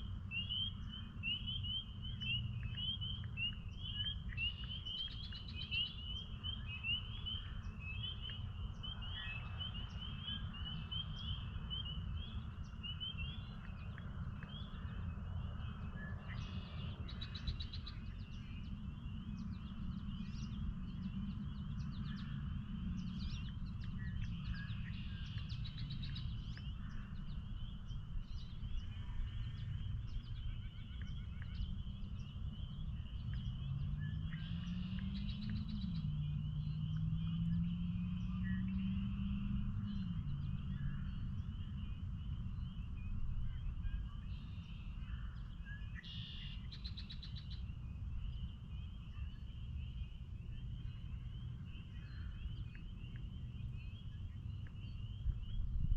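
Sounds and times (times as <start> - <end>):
spring peepers chorus: 0.0 - 55.9
steady low rumble: 0.0 - 55.9.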